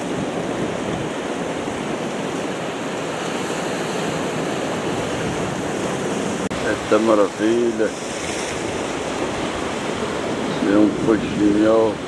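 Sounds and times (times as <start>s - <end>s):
sea surf on rocky shore: 0.0s - 12.0s.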